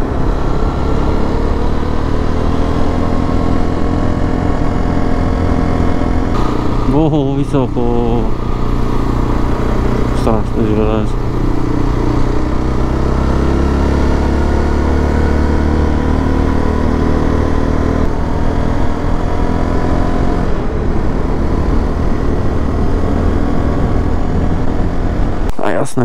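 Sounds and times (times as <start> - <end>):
motorcycle engine running: 0.0 - 25.5
road rumble: 0.0 - 26.0
wind: 0.0 - 26.0.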